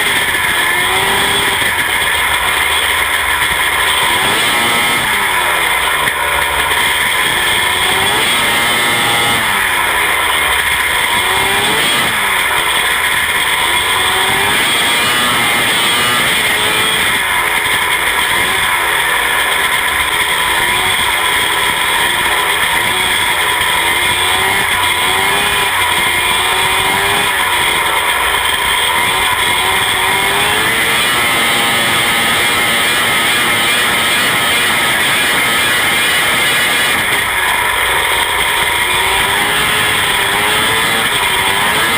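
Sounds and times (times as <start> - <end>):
race car engines revving: 0.0 - 41.9.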